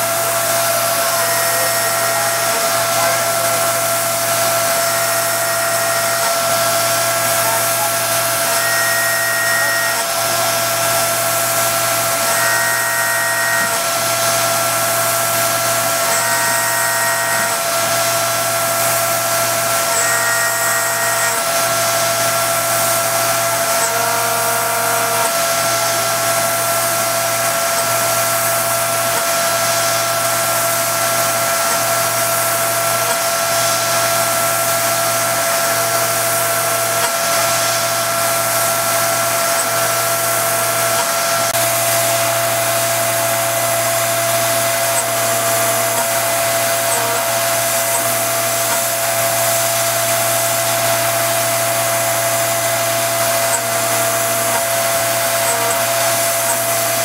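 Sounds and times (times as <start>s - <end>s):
mill spindle hum and whine: 0.0s - 57.0s.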